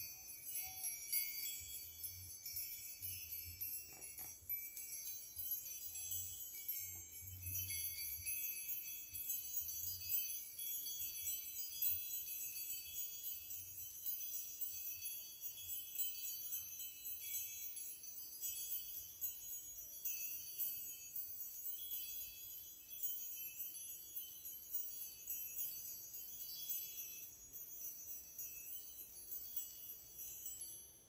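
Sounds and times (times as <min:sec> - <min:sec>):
small chimes tinkling: 0:00.0 - 0:31.0.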